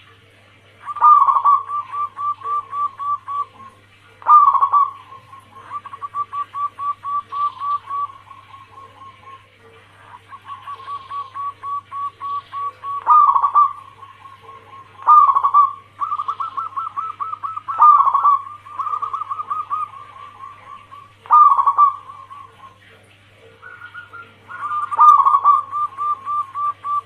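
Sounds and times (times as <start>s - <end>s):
doves cooing: 0.0s - 27.0s.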